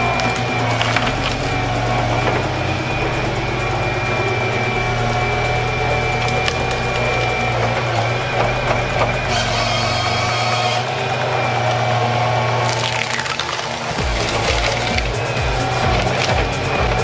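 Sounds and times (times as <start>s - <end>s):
diesel engine running: 0.0s - 17.0s
higher whine: 0.0s - 17.0s
hydraulic whine: 0.0s - 17.0s
saw cutting through tree trunk: 0.0s - 17.0s.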